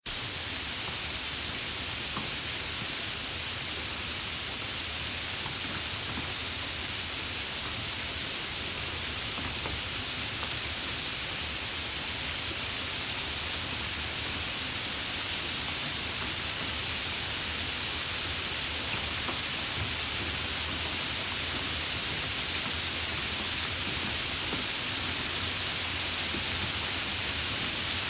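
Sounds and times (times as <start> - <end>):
gentle rain hissing: 0.1 - 28.0.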